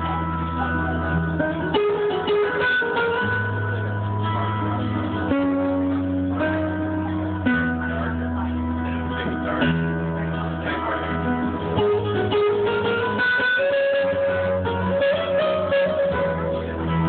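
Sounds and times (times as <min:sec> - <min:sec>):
low bass notes: 0:00.0 - 0:17.0
nylon-string acoustic guitar: 0:00.0 - 0:17.0.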